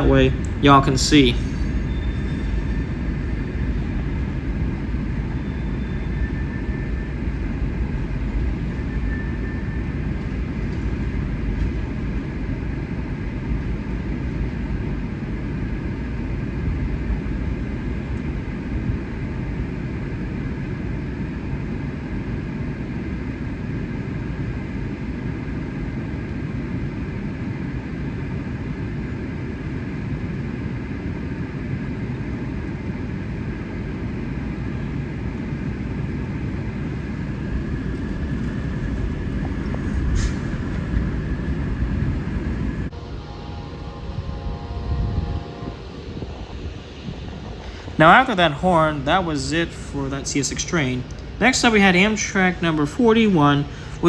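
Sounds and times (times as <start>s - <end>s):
freight train rumbling by: 0.0s - 54.0s.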